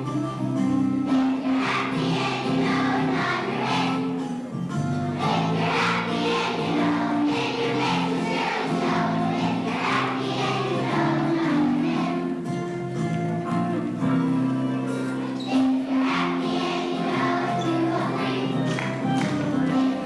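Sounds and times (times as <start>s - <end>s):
children's choir singing: 0.0s - 20.0s
musical accompaniment: 0.0s - 20.0s.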